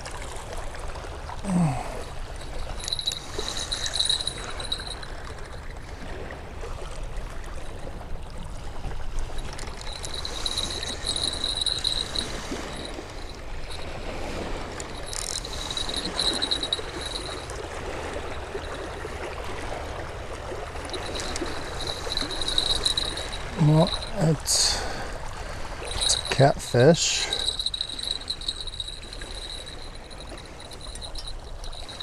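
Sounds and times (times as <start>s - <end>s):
lake water washing against shore: 0.0s - 32.0s.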